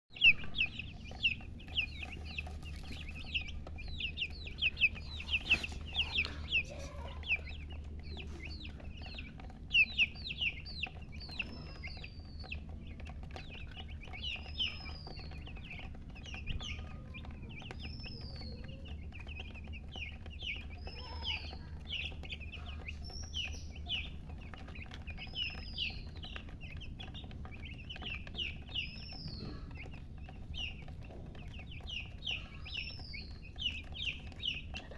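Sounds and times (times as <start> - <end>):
baby chicks peeping: 0.1 - 34.9.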